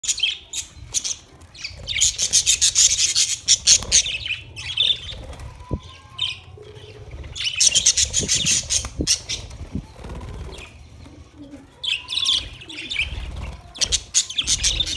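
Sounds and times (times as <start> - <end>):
budgerigars chirping and chattering: 0.0 - 14.9.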